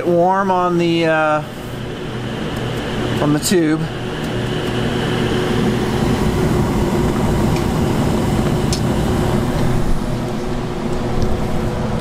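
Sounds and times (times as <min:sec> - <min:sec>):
heater fan humming: 0:00.0 - 0:12.0.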